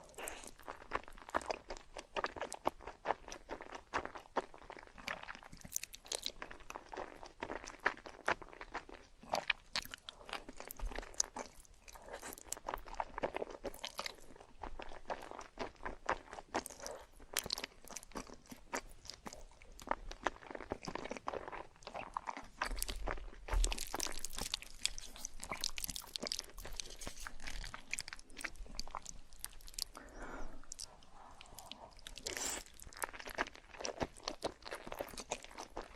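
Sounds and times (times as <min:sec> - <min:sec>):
person crunching and chewing food: 0:00.0 - 0:35.9.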